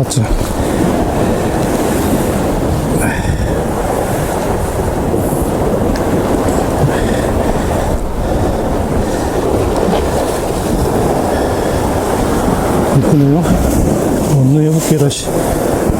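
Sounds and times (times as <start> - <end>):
sea swell against rocks: 0.0 - 15.9
wind on microphone: 0.0 - 15.9.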